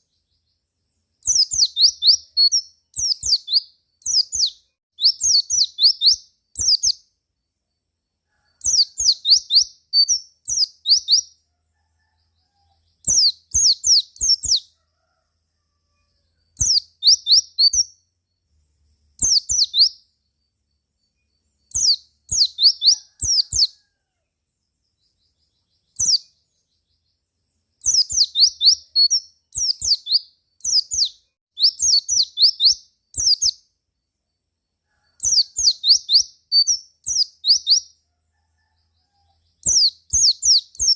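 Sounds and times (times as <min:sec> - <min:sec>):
bird high chirping song: 0:00.0 - 0:14.8, 0:15.9 - 0:23.9, 0:24.6 - 0:40.9.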